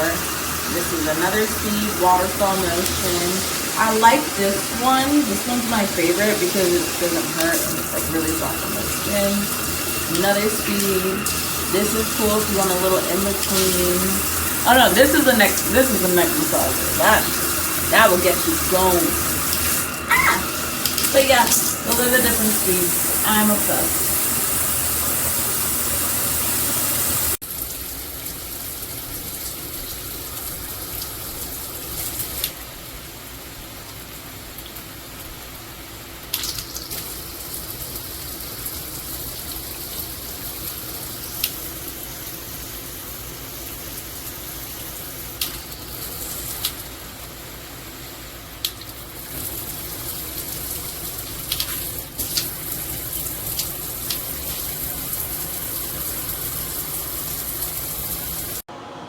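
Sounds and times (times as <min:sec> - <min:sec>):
shower water spraying: 0:00.0 - 0:32.7, 0:36.2 - 0:58.7.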